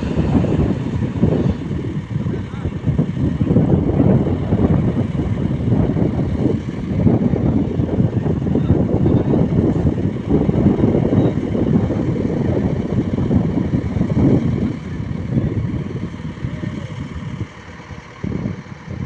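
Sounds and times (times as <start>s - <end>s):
diesel machinery engine running: 0.0s - 19.0s.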